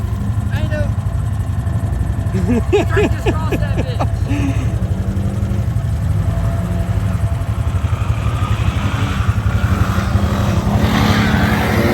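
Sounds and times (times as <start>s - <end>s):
atv engine running: 0.0s - 11.9s.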